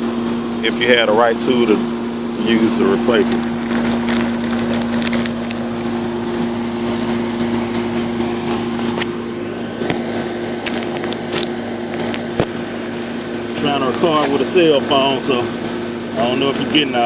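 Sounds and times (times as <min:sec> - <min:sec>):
compressor electrical hum: 0:00.0 - 0:17.0
fan noise: 0:00.0 - 0:17.0.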